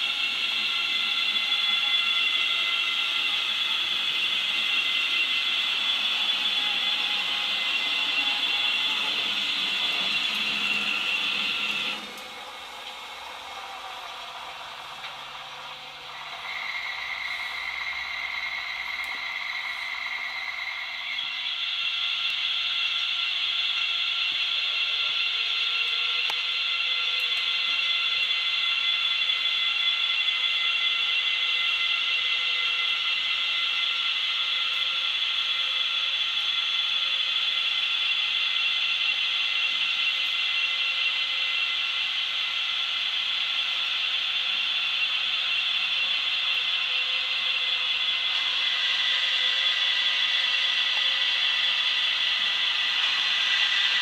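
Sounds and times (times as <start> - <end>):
model locomotives high whine: 0.0 - 54.0.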